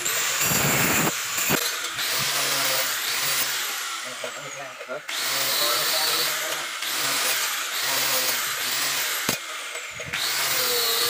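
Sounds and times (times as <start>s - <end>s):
angle grinder grinding steel: 0.0s - 11.0s.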